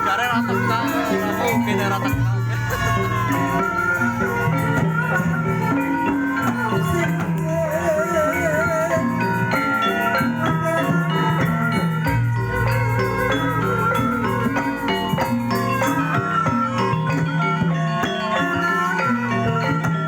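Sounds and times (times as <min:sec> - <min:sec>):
gamelan music: 0:00.0 - 0:20.0
wavering melody line: 0:00.0 - 0:20.0.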